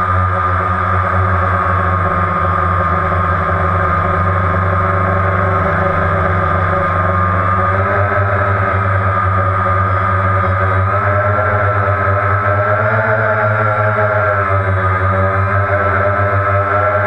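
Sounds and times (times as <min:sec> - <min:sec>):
drone motors and propellers whirring: 0:00.0 - 0:17.0.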